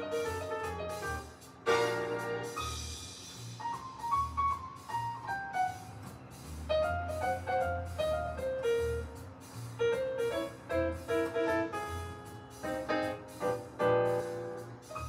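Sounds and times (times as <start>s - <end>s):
slow piano music: 0.0s - 6.0s, 6.7s - 15.0s.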